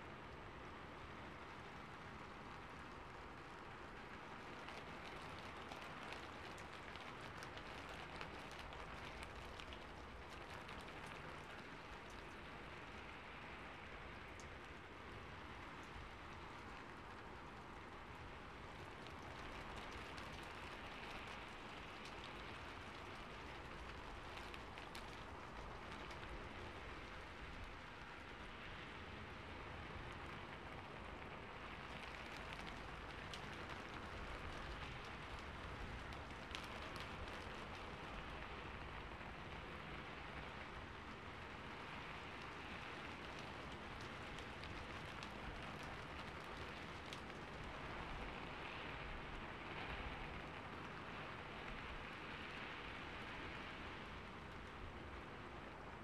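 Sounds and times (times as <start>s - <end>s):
steady rain patter: 0.0s - 56.0s.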